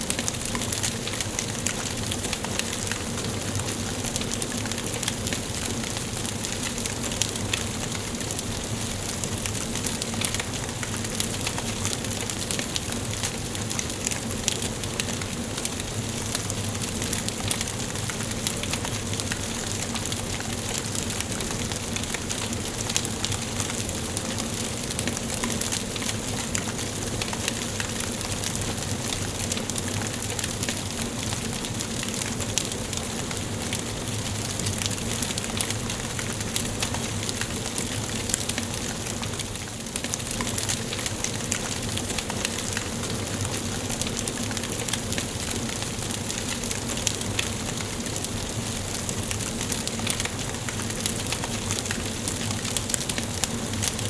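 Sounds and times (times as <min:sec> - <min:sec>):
wood fire crackling in fireplace: 0:00.0 - 0:54.0.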